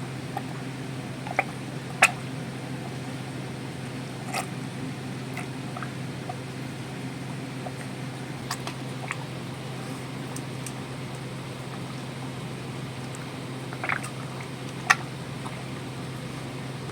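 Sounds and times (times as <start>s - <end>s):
steady low hum: 0.0s - 16.9s
cow chewing feed: 0.1s - 16.9s.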